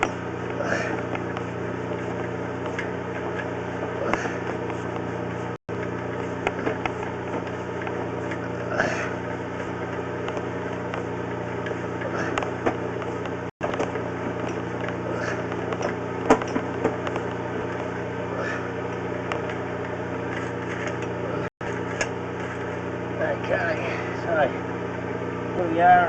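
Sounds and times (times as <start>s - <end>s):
engine idling hum: 0.0s - 26.0s.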